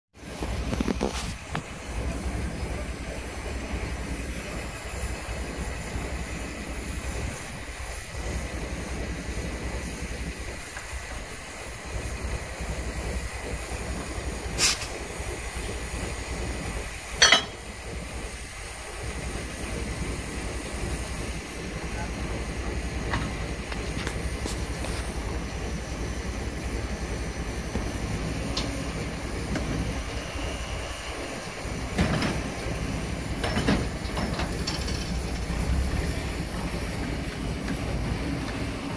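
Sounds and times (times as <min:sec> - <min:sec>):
engine low rumble: 0:00.2 - 0:38.9.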